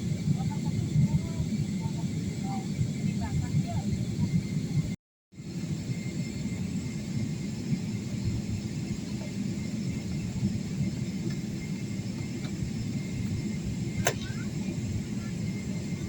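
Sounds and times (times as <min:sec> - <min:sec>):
airplane cabin rumble: 0:00.0 - 0:16.0
faint high whine: 0:00.0 - 0:16.0.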